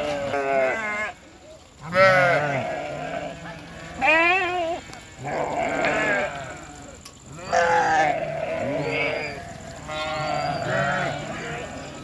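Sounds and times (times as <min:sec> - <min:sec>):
sheep bleating: 0:00.0 - 0:01.2, 0:01.8 - 0:12.0.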